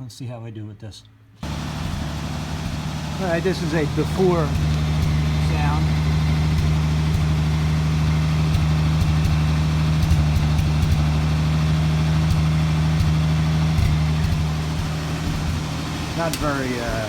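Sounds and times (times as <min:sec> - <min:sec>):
car engine idling: 0:01.4 - 0:17.0.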